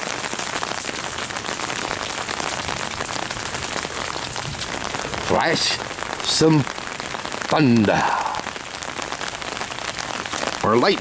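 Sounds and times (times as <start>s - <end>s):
raindrops pattering close: 0.0s - 11.0s
steady rain hissing: 0.0s - 11.0s.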